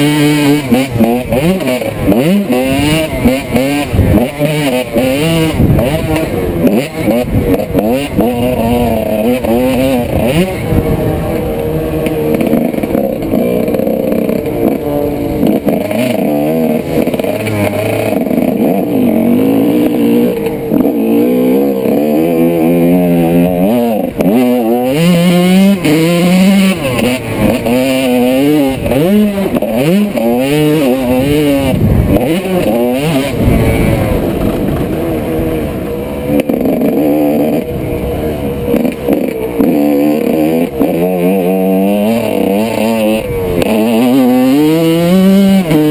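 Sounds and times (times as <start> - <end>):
two-stroke motorcycle engine revving: 0.0 - 45.9.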